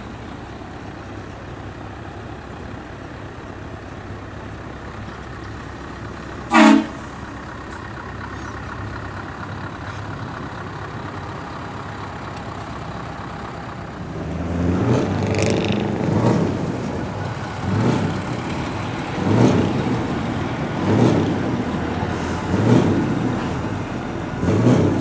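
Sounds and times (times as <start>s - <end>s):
truck diesel engines revving: 0.0s - 25.0s.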